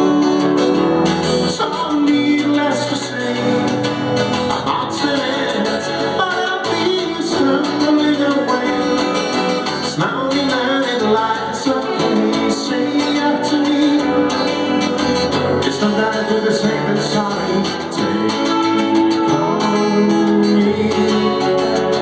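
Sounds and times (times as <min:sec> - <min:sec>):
band playing live: 0:00.0 - 0:22.0
electric guitar: 0:00.0 - 0:22.0
person singing: 0:00.0 - 0:22.0.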